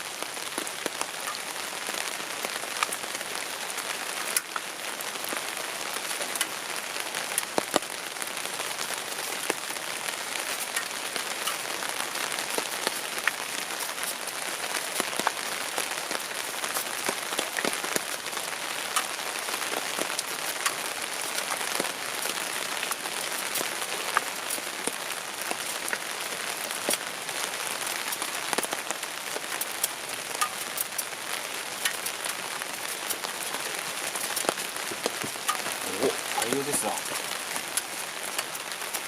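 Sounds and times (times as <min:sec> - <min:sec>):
steady rain patter: 0:00.0 - 0:39.0.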